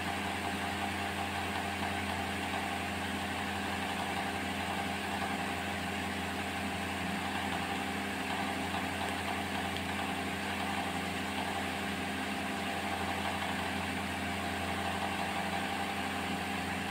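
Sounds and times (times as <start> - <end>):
mechanical hum: 0.0 - 16.9.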